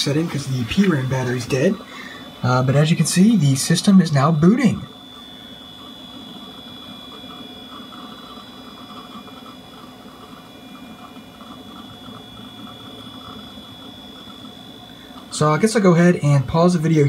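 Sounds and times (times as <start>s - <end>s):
computer hum: 0.0s - 17.0s
hard drive chatter: 0.0s - 17.0s
high-pitched whine: 0.0s - 17.0s.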